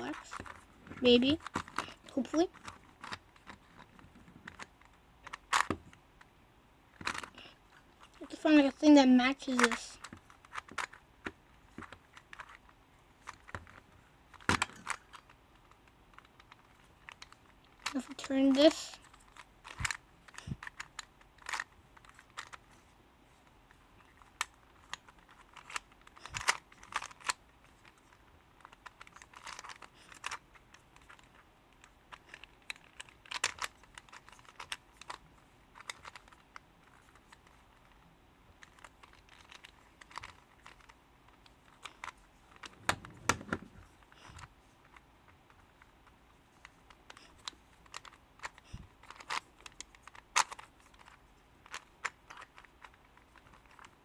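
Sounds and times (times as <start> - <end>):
plastic puzzle clicking: 0.0 - 6.3, 6.9 - 22.8, 23.7 - 54.0.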